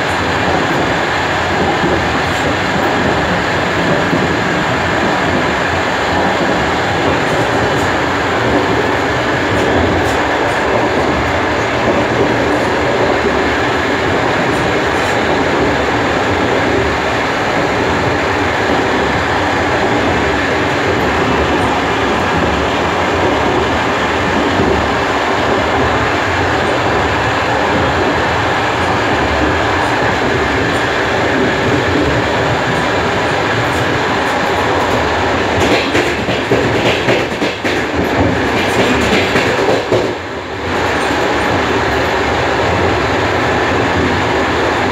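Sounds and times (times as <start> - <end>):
rail clatter: 0.0 - 44.9
train wheels rumbling on rails: 0.0 - 44.9.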